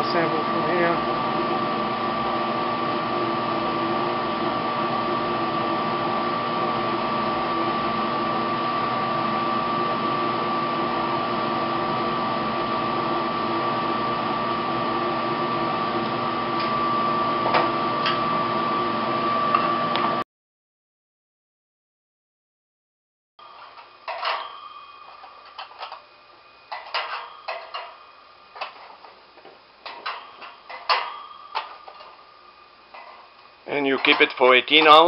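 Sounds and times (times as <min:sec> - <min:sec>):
blower humming with high whine: 0:00.0 - 0:20.2, 0:23.4 - 0:35.0.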